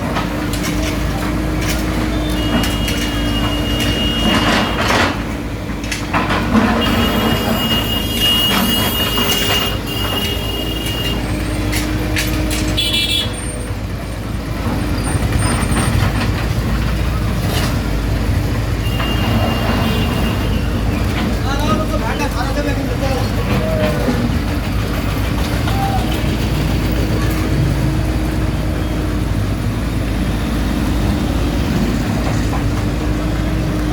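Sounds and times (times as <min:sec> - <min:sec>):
knocks and clanks: 0:00.0 - 0:29.0, 0:30.7 - 0:33.9
diesel engine running: 0:00.0 - 0:33.9.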